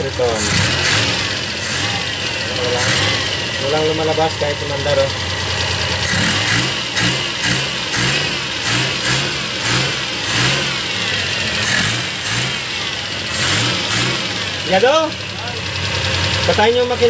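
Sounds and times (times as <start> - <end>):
engine revs rising and falling: 0.0 - 5.0, 6.0 - 17.0.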